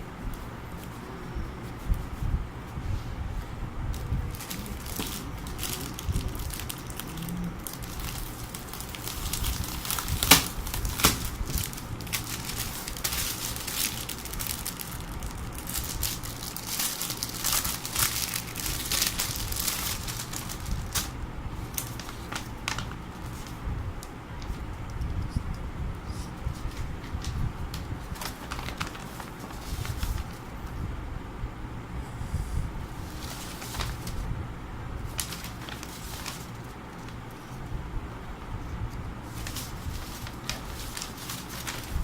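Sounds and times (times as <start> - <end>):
packaging crinkling and rustling: 0.2 - 25.0, 26.4 - 30.7, 32.9 - 34.3, 35.0 - 37.7, 38.9 - 42.0.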